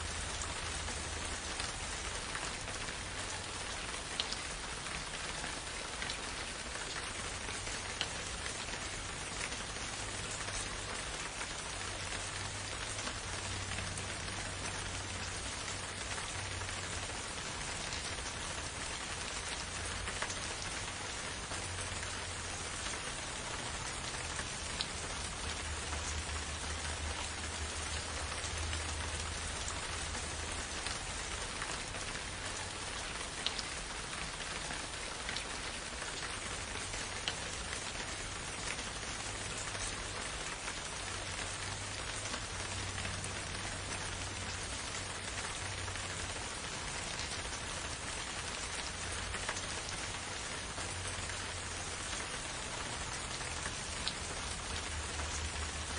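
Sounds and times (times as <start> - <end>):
raindrop ticking close by: 0.0 - 55.9.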